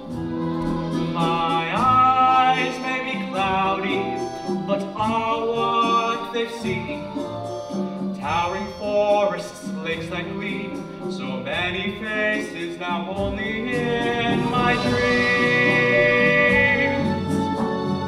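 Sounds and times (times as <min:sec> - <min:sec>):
instrumental accompaniment: 0:00.0 - 0:18.0
opera singing: 0:00.9 - 0:07.2, 0:08.2 - 0:17.6.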